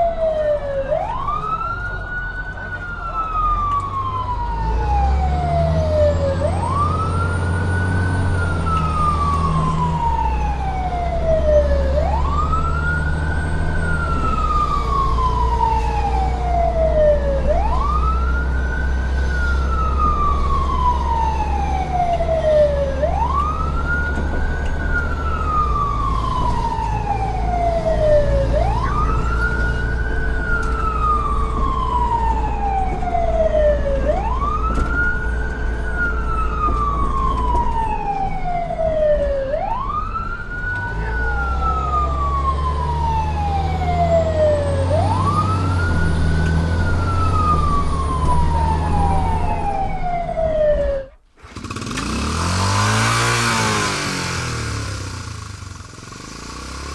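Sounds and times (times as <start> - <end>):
siren wailing: 0.0 - 55.9.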